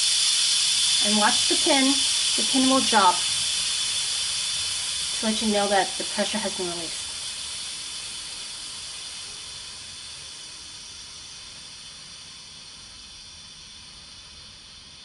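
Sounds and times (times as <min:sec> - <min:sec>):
pressure cooker venting steam: 0:00.0 - 0:15.0.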